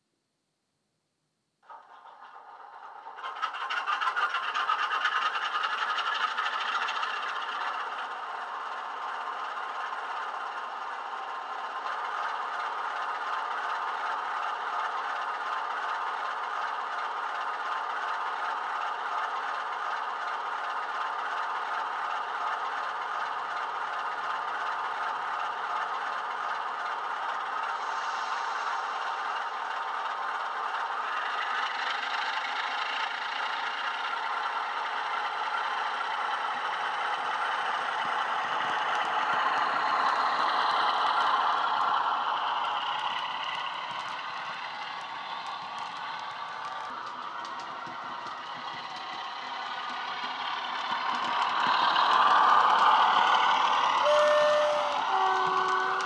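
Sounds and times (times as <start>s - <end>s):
diesel locomotive engine through speaker: 1.6s - 56.0s.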